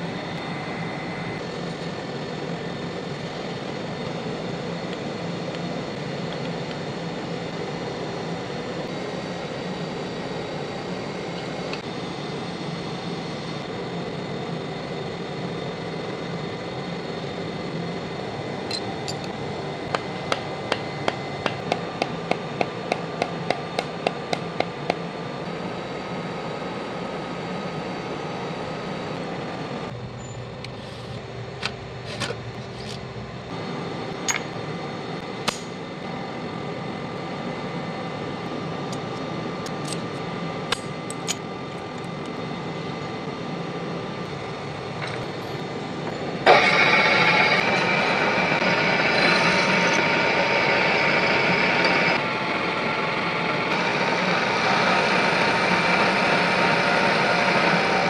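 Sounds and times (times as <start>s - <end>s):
shop machinery hum: 0.0s - 58.0s.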